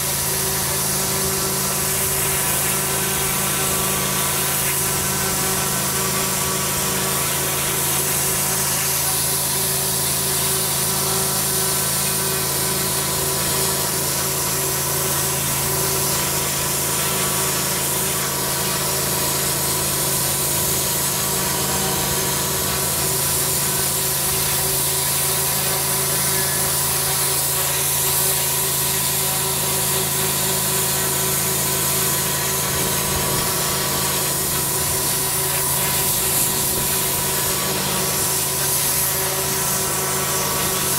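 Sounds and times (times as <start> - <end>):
pressure washer machine hum: 0.0 - 40.9
pressure washer spraying paving: 0.0 - 40.9.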